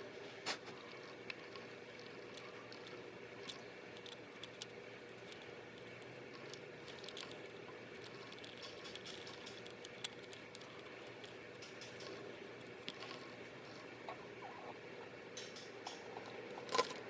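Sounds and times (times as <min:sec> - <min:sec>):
faint steady hum: 0:00.0 - 0:17.0
small parts and tools clicking: 0:00.9 - 0:13.8, 0:15.4 - 0:17.0.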